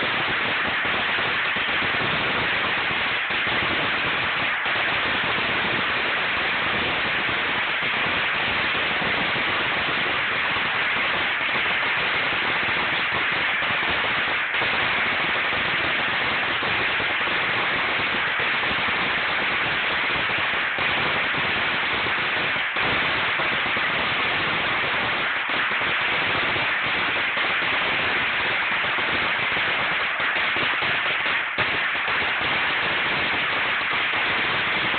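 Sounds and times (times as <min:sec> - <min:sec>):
firecrackers crackling: 0:00.0 - 0:34.9.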